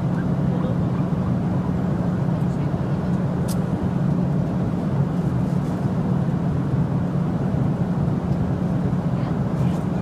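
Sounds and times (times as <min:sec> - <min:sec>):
airliner cabin drone: 0:00.0 - 0:10.0.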